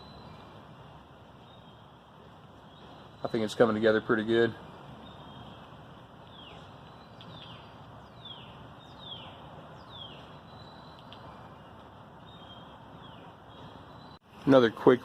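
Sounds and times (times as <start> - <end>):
bird chirping: 0.0 - 0.6, 1.4 - 14.6
low steady background hiss: 0.0 - 15.0.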